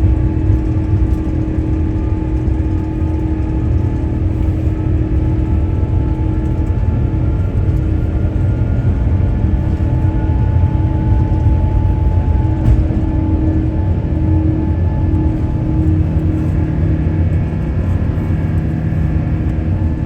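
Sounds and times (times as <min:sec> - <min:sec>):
jet cabin rumble with whining tones: 0:00.0 - 0:20.0.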